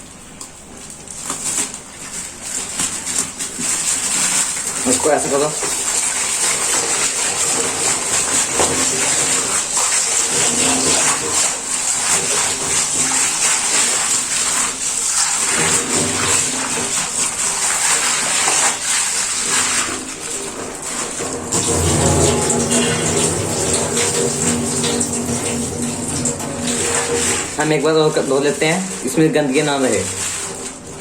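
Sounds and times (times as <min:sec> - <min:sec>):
stones rinsed by hand: 0:00.0 - 0:31.0
water running and splashing: 0:00.0 - 0:31.0.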